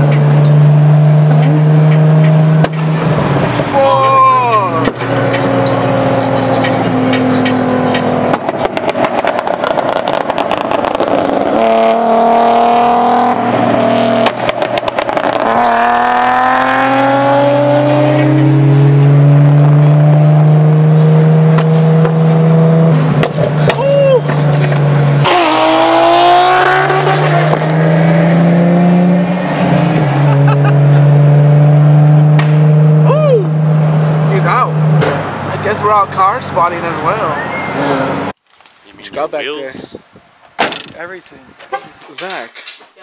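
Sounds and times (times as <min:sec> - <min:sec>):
car engine accelerating: 0:00.0 - 0:38.4.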